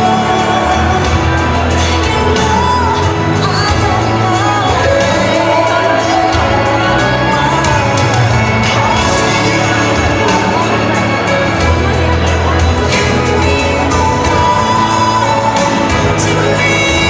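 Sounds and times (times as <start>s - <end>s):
pop song over sound system: 0.0s - 17.0s.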